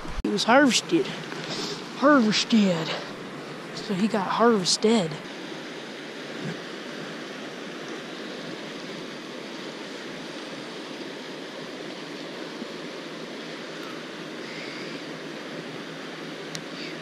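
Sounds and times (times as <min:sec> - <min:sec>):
river flowing over rocks: 0:00.0 - 0:17.0.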